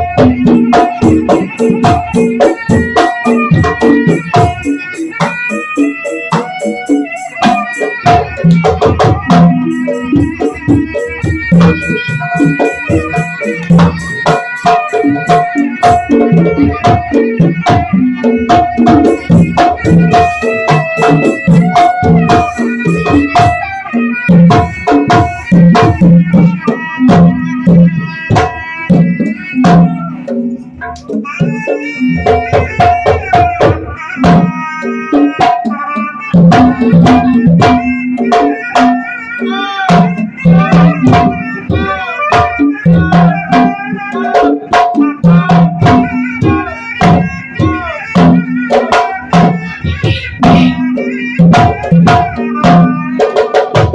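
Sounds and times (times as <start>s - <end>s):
band playing instrumental music: 0.0s - 53.9s
fast hand drum strokes: 0.0s - 53.9s.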